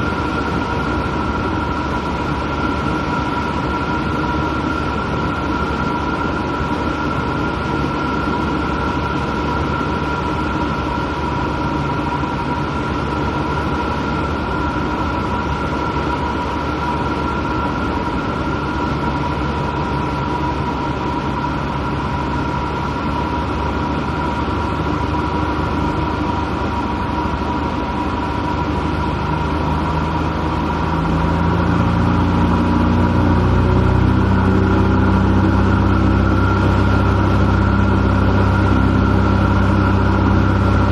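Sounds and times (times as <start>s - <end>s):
high whine: 0.0s - 40.9s
light airplane engine droning: 0.0s - 40.9s.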